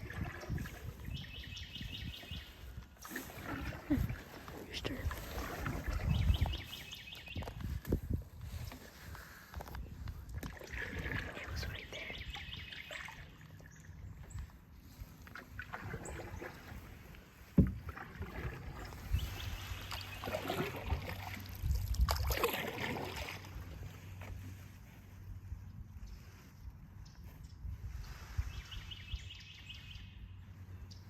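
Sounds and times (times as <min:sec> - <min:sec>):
paddles swishing through water: 0:00.0 - 0:31.0.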